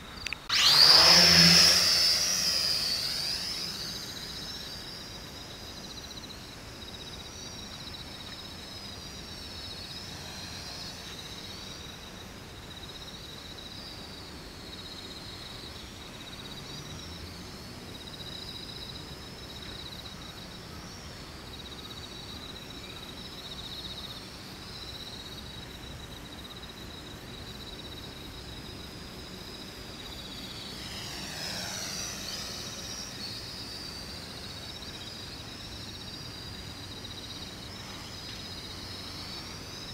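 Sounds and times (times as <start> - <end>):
quadcopter propellers whining: 0.2 - 22.2, 28.4 - 39.9.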